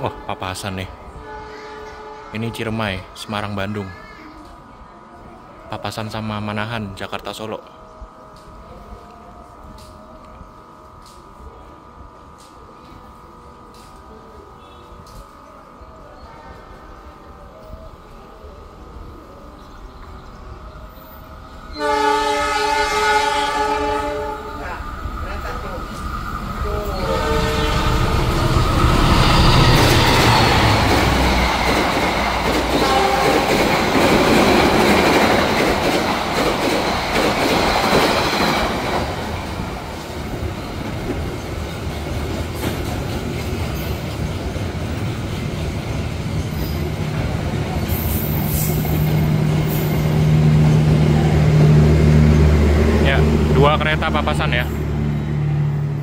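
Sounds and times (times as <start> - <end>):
trains rushing past: 0.0 - 56.0.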